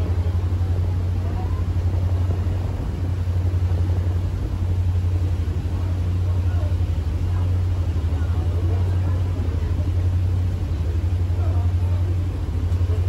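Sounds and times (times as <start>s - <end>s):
ship engines droning: 0.0s - 13.0s
wake rushing along hull: 0.0s - 13.0s.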